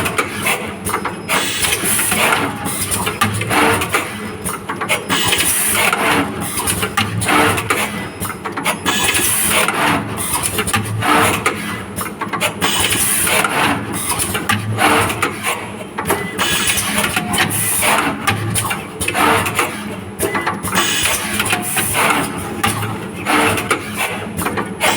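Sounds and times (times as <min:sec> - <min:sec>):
machine clicking and whirring: 0:00.0 - 0:24.9.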